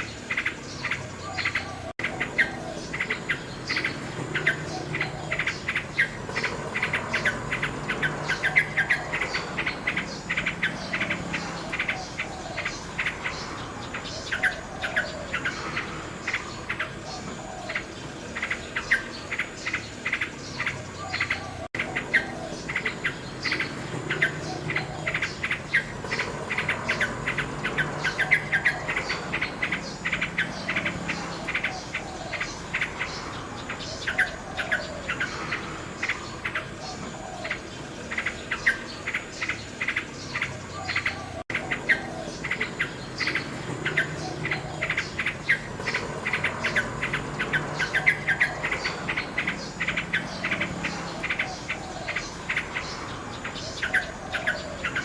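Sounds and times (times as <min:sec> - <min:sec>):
insects chirring: 0:00.0 - 0:55.0
nightingale singing: 0:00.0 - 0:55.0.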